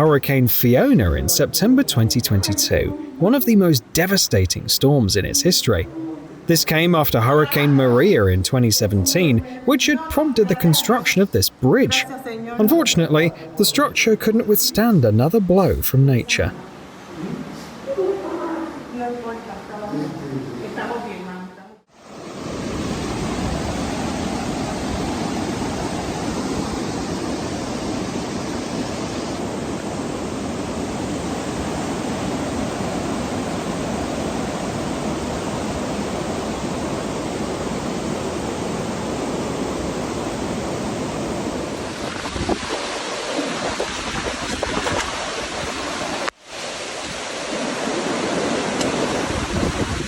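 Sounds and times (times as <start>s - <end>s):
rushing floodwater: 0.0s - 20.6s, 22.0s - 50.0s.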